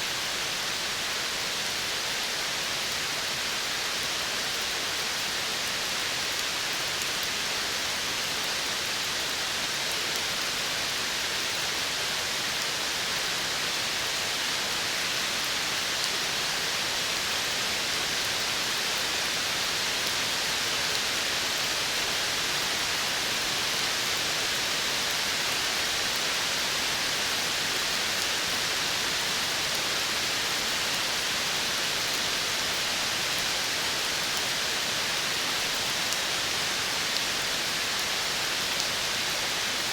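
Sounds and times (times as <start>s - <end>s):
forest ambience hiss: 0.0s - 39.9s.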